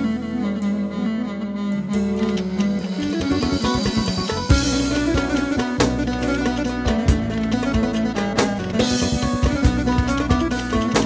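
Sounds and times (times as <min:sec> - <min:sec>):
electronic keyboard melody: 0:00.0 - 0:11.0.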